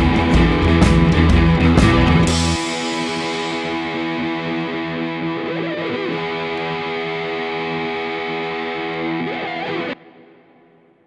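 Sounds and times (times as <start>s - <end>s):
distorted electric guitar chord: 0.0s - 11.0s.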